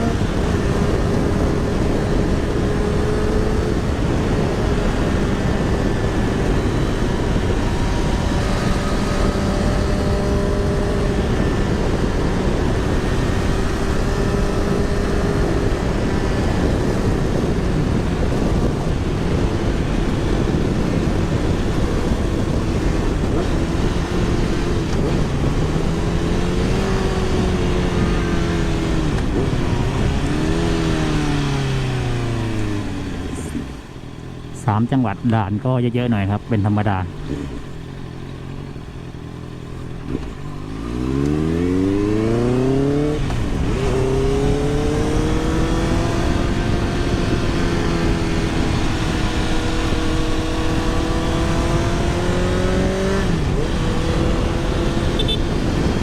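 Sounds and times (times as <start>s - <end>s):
motorcycle engine hum: 0.0s - 56.0s
wind rush on microphone: 0.0s - 56.0s.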